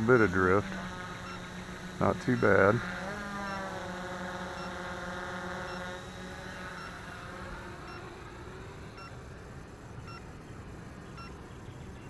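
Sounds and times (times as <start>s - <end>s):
drone propellers humming: 0.0s - 11.6s.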